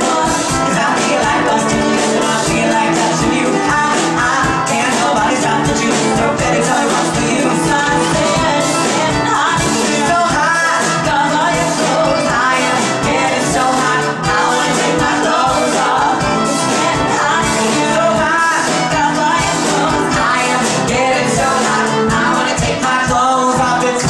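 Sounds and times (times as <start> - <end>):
drums keeping a beat: 0.0 - 24.0
man singing: 0.0 - 24.0.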